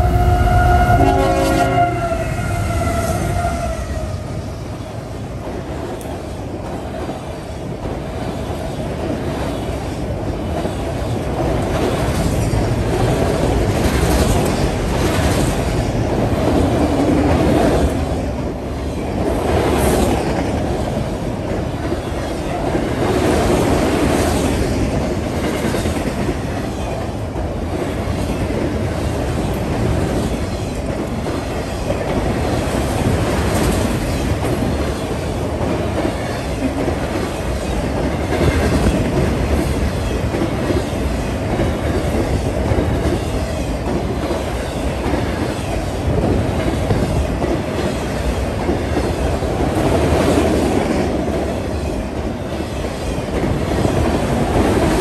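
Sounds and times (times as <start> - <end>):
rumble of train wheels on rail: 0.0 - 55.0.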